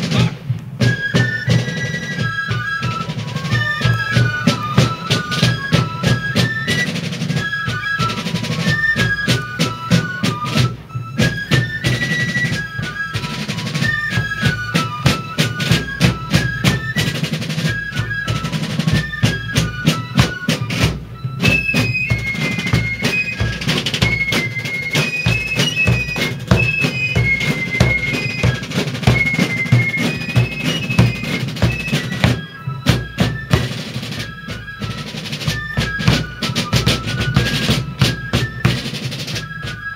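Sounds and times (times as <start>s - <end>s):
fife melody: 0.0s - 39.9s
snare drum rolls: 0.0s - 39.9s.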